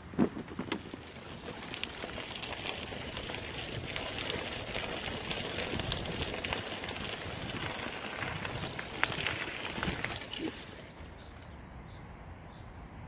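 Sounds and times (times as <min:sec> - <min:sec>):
bicycle trailer rattling on gravel: 0:00.0 - 0:11.3.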